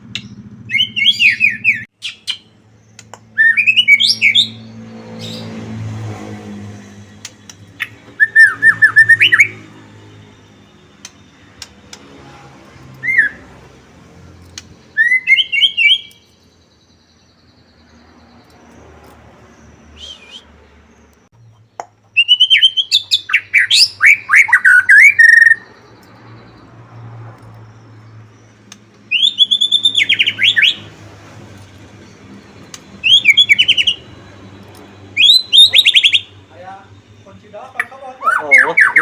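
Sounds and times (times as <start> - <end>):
bird singing whistles and trills: 0.1 - 5.5, 7.2 - 11.7, 13.0 - 13.4, 14.8 - 18.8, 19.5 - 21.3, 22.1 - 26.6, 27.6 - 39.0.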